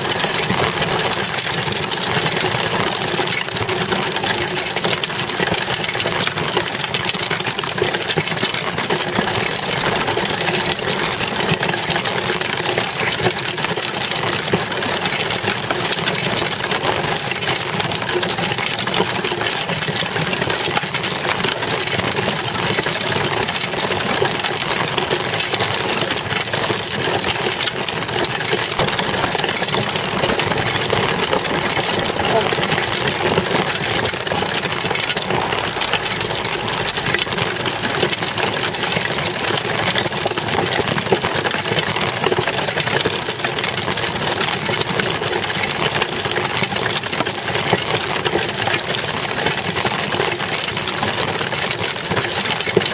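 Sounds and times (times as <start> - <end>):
bicycle mechanical rattle: 0.0 - 52.9.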